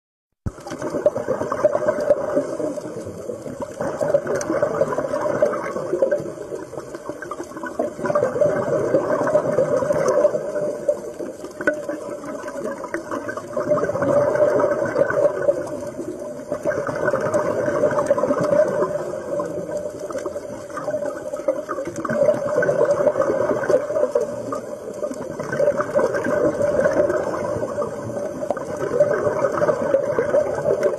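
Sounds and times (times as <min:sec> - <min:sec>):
running water rushing and gurgling: 0:00.5 - 0:30.9.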